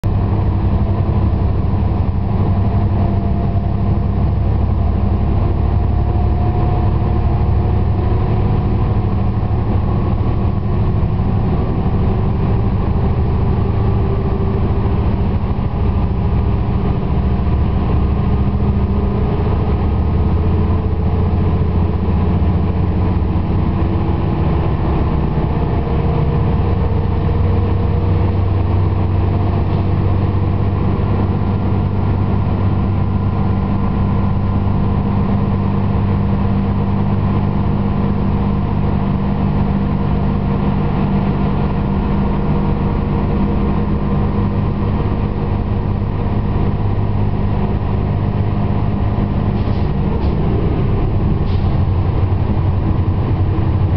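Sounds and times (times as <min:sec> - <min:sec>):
diesel railcar engine idling: 0:00.0 - 0:53.9.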